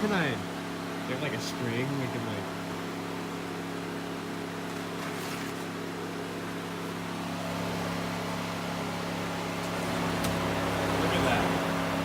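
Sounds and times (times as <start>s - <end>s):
radiator cooling fans humming: 0.0s - 12.0s.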